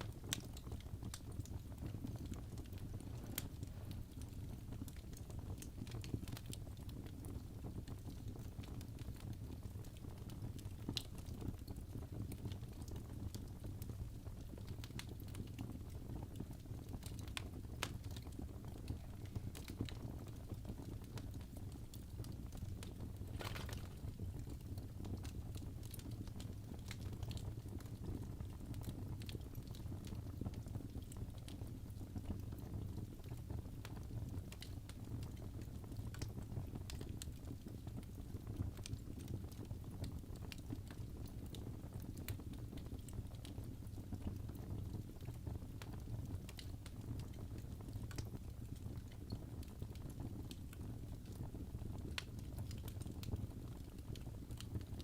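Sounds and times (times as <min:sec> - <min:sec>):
fire crackling and popping: 0:00.0 - 0:55.0
fire flames rumbling: 0:00.0 - 0:55.0.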